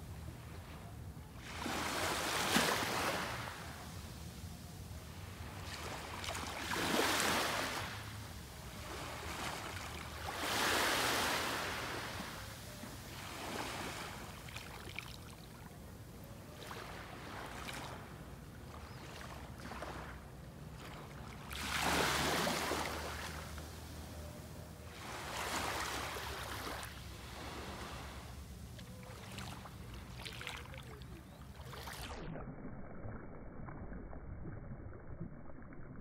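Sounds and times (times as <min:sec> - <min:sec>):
small waves lapping on sand: 0:00.0 - 0:24.2, 0:24.9 - 0:32.2.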